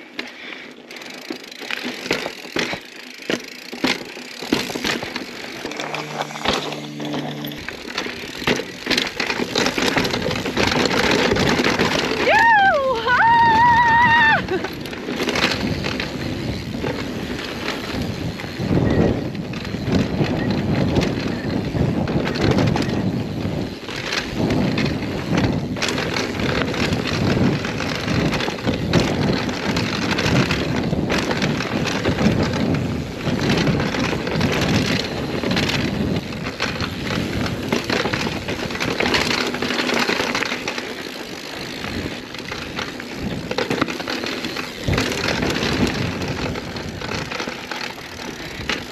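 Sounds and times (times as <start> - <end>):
bike clattering over bumps: 0.0 - 48.9
tyres on rock and gravel: 0.0 - 48.9.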